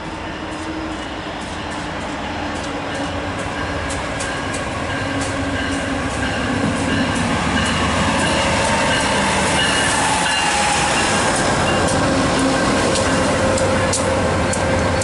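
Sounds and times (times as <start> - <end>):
train wheels clicking over rails: 0.5 - 15.0.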